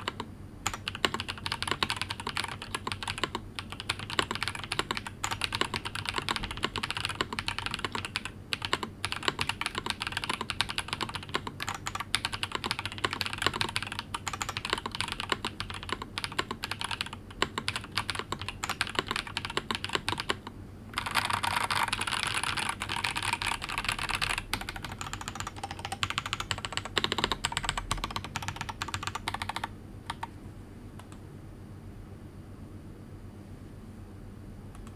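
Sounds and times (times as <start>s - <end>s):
mechanical keyboard typing: 0.0s - 30.3s.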